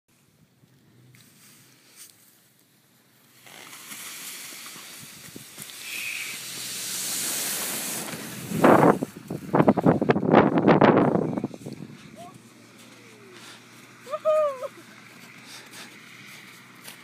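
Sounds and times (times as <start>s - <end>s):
rushing wind and snow: 0.1s - 17.0s.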